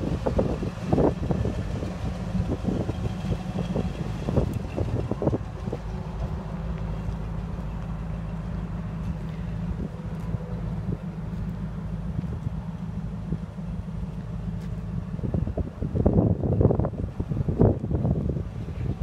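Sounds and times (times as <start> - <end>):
engine idling: 0.0 - 19.0
wind buffeting microphone: 0.0 - 19.0.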